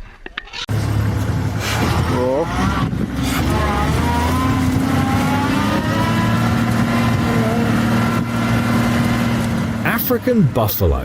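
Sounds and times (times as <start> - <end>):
vehicle engine revving: 0.7 - 10.7.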